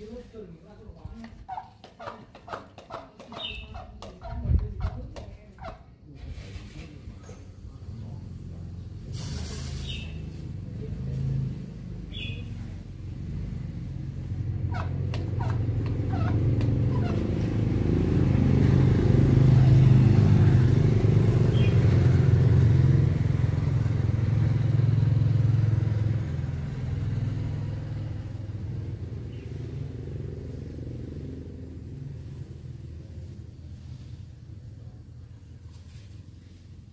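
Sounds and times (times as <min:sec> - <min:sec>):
vehicle engine rumbling: 0:00.0 - 0:36.9.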